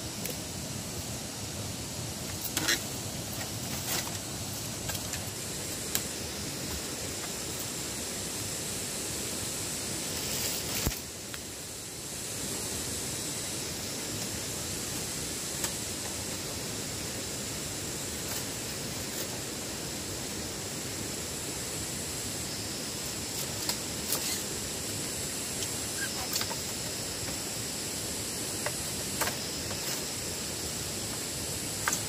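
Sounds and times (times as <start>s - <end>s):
outdoor hiss: 0.0s - 32.0s.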